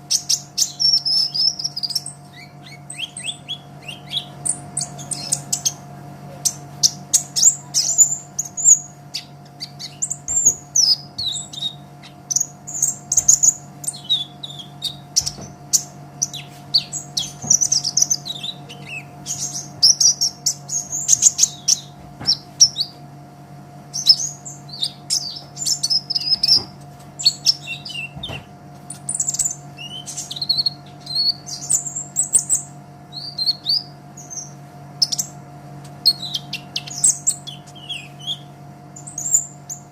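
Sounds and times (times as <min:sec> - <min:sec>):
bird twittering: 0:00.0 - 0:23.0, 0:23.9 - 0:39.9
steady low hum: 0:00.0 - 0:39.9.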